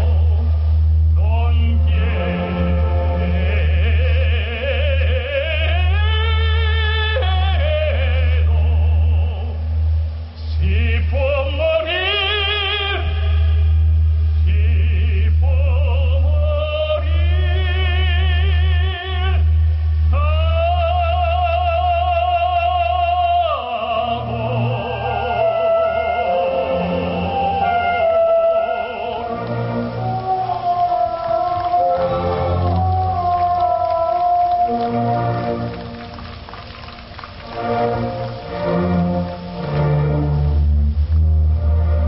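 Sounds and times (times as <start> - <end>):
man singing into microphone: 0.0 - 35.7
musical accompaniment: 0.0 - 42.0.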